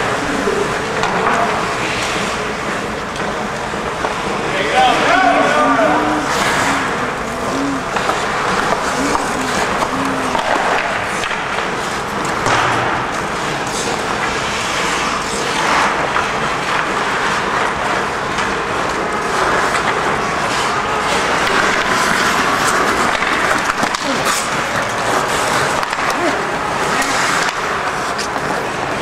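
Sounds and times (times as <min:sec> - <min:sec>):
skates scraping ice: 0:00.0 - 0:29.0
sticks clacking on puck: 0:00.1 - 0:03.4, 0:06.2 - 0:29.0.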